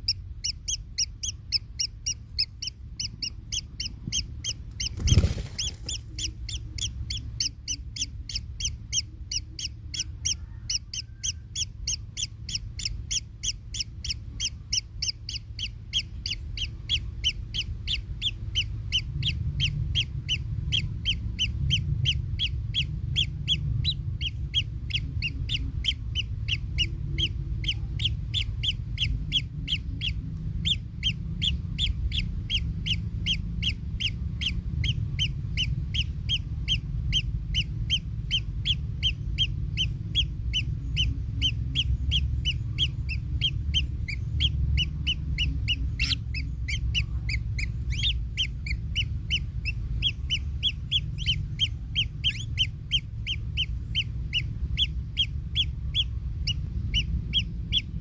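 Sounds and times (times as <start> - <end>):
low rumble: 0.0 - 58.0
nestlings calling: 0.0 - 58.0.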